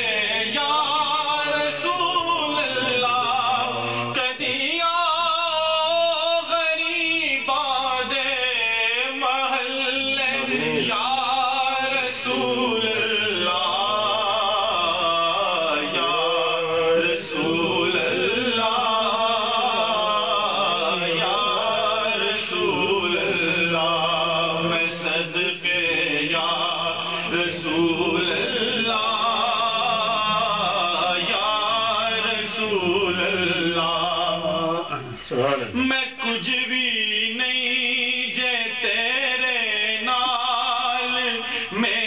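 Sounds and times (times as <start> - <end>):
man singing with vibrato: 0.0 - 42.0.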